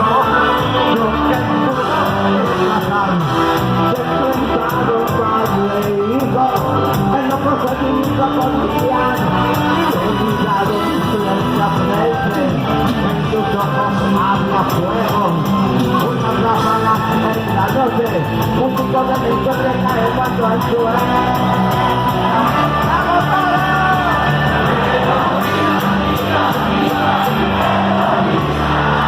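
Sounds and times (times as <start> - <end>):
live band music with driving beat: 0.0 - 29.0.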